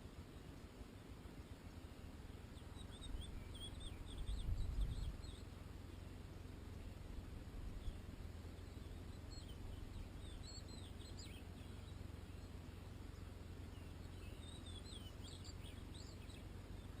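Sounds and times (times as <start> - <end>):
finch twittering song: 0.0 - 17.0
low background rumble: 0.0 - 17.0.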